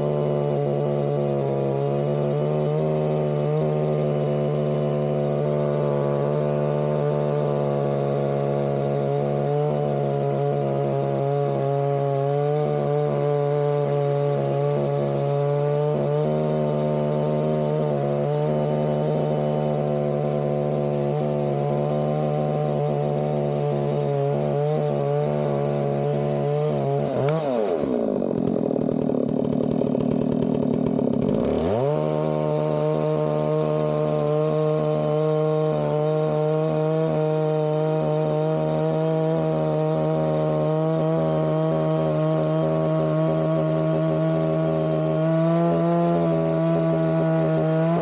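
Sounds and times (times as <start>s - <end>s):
chainsaw revving and idling: 0.0s - 48.0s.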